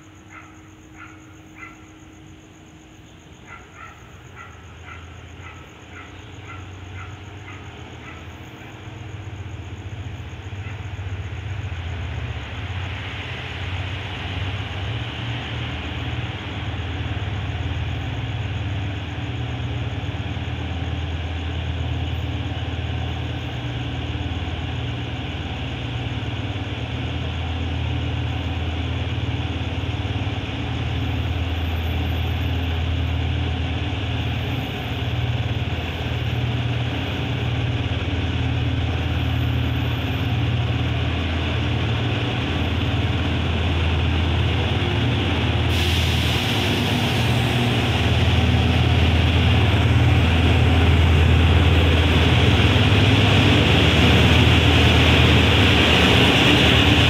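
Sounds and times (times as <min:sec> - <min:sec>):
locomotive engine drone: 0:00.0 - 0:57.0
train wheels rumbling on rails: 0:00.0 - 0:57.0.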